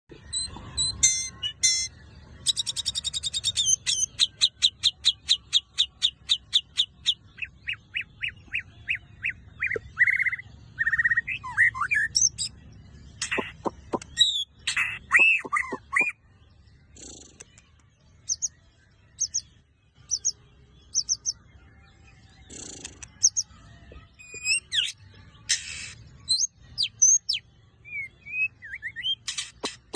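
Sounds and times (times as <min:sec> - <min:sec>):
bird singing varied song: 0:00.1 - 0:29.9.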